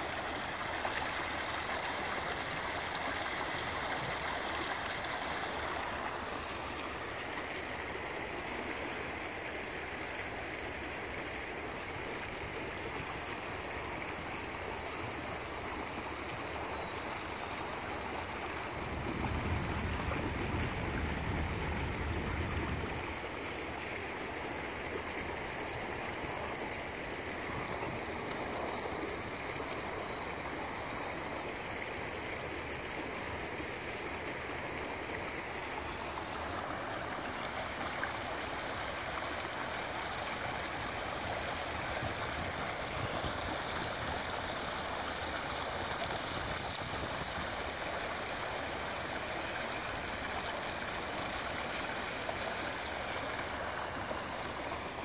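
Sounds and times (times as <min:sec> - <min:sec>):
stream splashing over rocks: 0:00.0 - 0:55.0.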